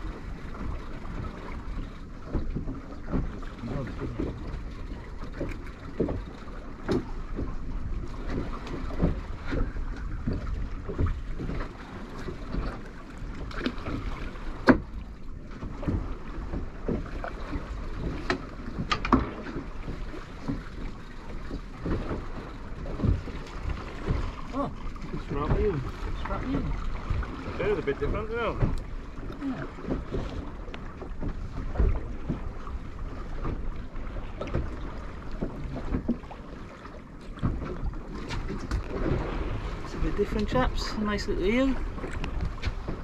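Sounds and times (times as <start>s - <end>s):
water slapping boat hull: 0.0s - 43.0s.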